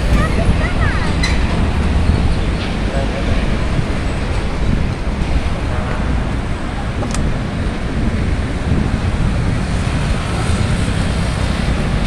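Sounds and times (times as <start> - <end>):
road traffic rush: 0.0 - 12.0
wind buffeting microphone: 0.0 - 12.0.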